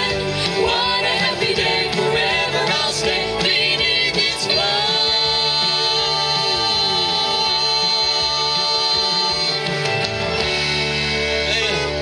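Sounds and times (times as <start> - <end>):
guitar chords: 0.0 - 12.0.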